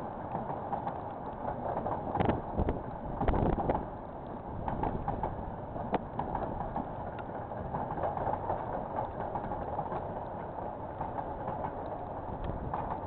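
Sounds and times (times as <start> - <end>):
freight train rumble: 0.0 - 13.0
wheels clicking over rail joints: 0.0 - 13.0.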